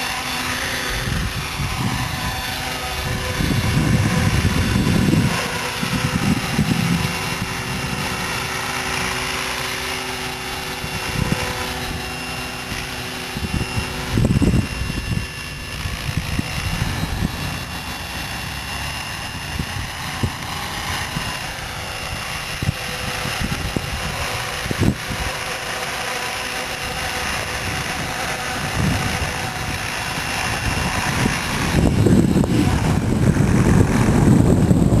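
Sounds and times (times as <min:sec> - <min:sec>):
rc helicopter motor whine: 0:00.0 - 0:35.0.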